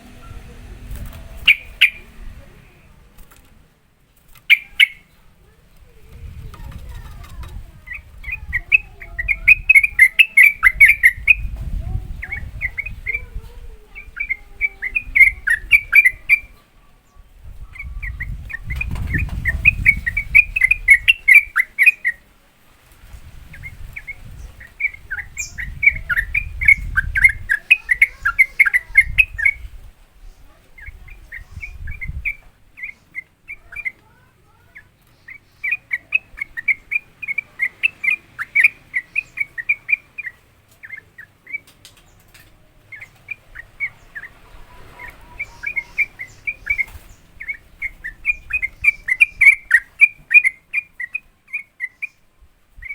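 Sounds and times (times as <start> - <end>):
bird singing chattering notes: 0.0 - 3.4, 4.2 - 22.3, 23.4 - 52.9.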